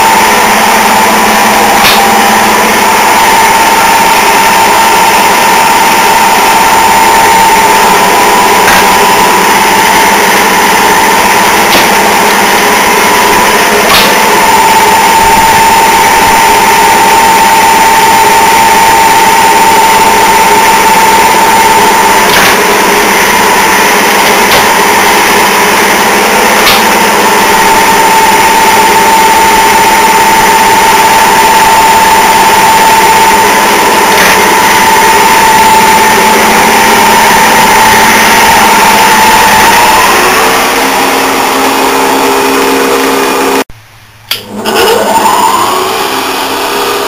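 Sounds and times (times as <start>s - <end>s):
mechanical running noise: 0.0s - 43.6s
lathe motor whine: 0.0s - 43.7s, 44.3s - 47.0s.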